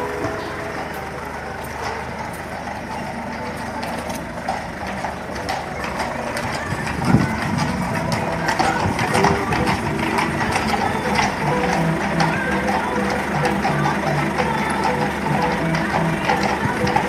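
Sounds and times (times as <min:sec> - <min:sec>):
carriage wheels rolling: 0:00.0 - 0:17.0
hooves clip-clopping: 0:00.0 - 0:17.0.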